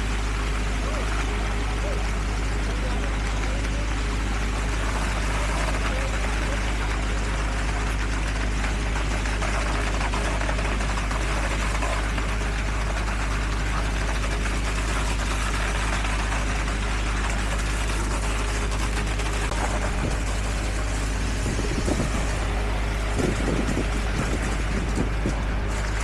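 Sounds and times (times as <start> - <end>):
diesel construction machinery running: 0.0 - 26.0.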